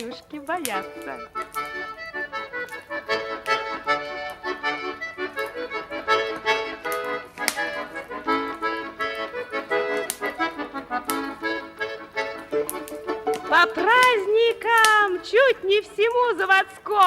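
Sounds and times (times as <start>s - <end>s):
accordion playing lively melody: 0.0s - 17.0s.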